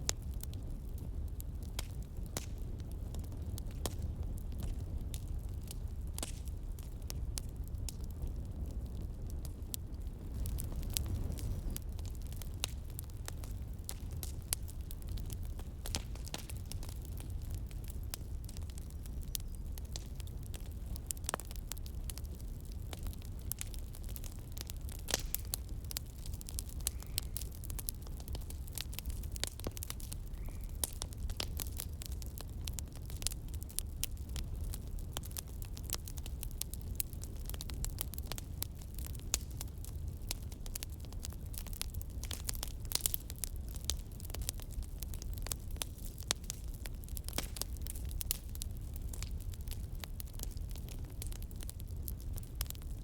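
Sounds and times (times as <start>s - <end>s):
campfire crackling and popping: 0.0s - 53.0s
low fire rumble: 0.0s - 53.0s.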